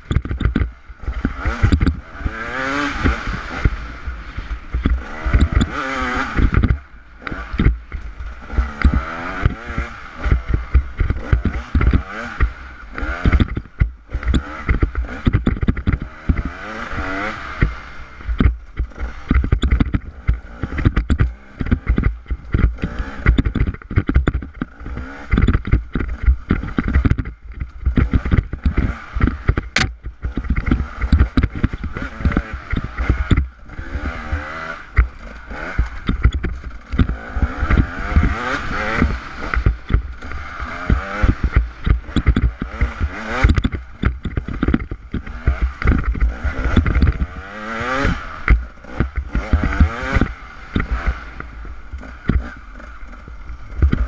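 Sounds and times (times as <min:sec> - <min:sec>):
bike rattling over stones: 0:00.0 - 0:54.0.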